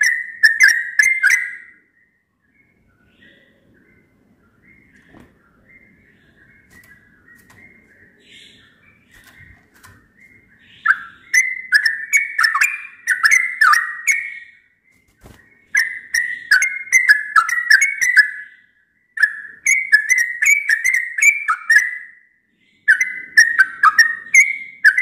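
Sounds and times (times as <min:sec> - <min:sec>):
bulbul singing: 0:00.0 - 0:25.0.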